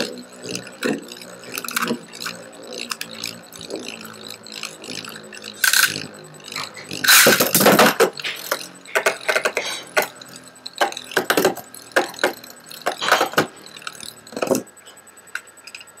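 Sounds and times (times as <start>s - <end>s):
spinning tops clashing: 0.0s - 14.7s.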